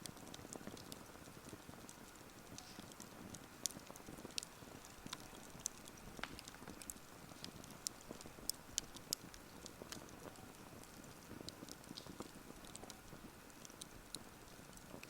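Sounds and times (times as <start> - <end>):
wood bonfire crackling: 0.0 - 15.0.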